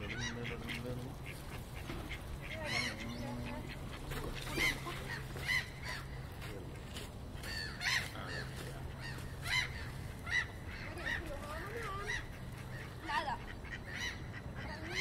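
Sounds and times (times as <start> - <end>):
geese honking: 0.0 - 6.4, 7.4 - 15.0
steady low hum: 0.0 - 15.0.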